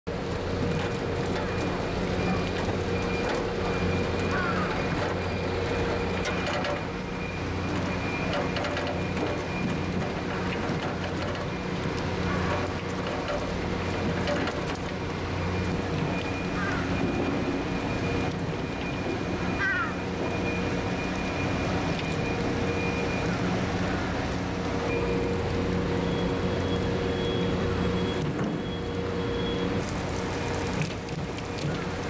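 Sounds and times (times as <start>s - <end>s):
machinery hum: 0.1s - 32.0s
water splashing: 0.1s - 32.0s.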